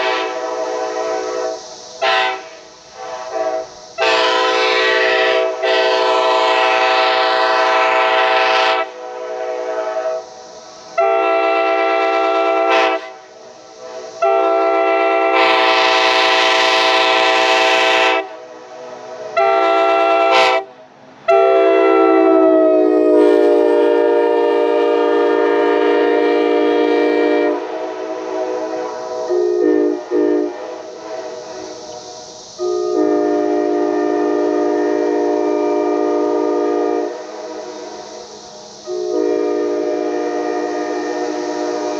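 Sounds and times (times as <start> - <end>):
train horn chord blasts: 0.0 - 10.2, 11.0 - 13.3, 13.9 - 20.7, 21.3 - 31.6, 32.6 - 37.9, 38.9 - 41.9.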